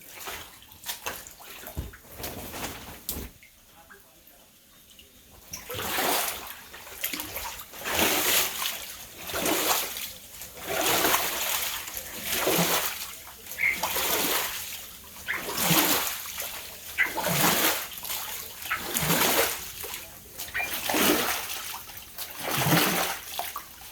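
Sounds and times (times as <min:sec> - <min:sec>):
floodwater splashing and sloshing: 0:00.0 - 0:03.6, 0:04.9 - 0:23.9.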